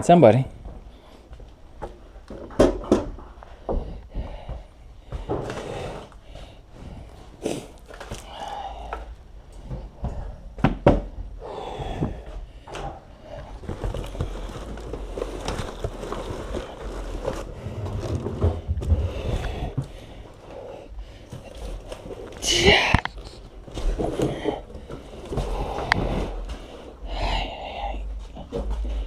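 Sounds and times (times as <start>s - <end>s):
things packed into boxes: 0.6s - 27.2s.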